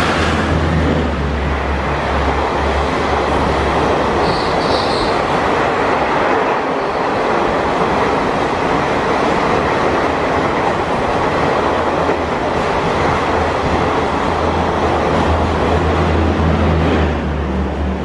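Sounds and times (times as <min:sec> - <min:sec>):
train wheels rushing on rails: 0:00.0 - 0:18.0.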